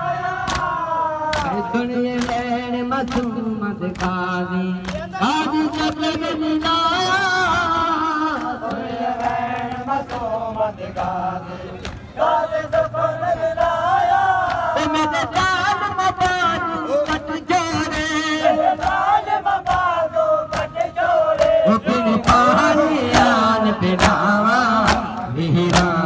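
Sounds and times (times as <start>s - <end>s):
man chanting a lament: 0.0s - 9.2s, 10.6s - 26.0s.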